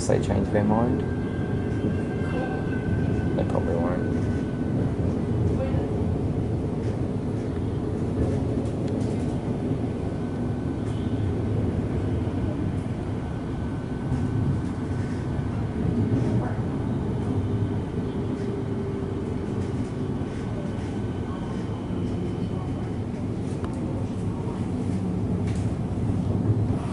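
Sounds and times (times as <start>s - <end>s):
train rumble: 0.0s - 26.9s.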